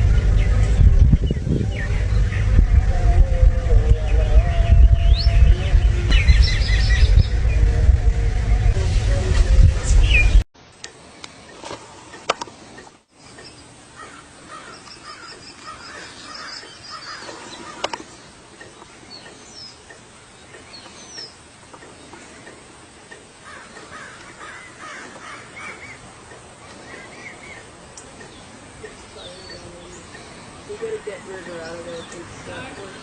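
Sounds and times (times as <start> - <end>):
birds calling: 0.0 - 7.8, 11.2 - 33.0.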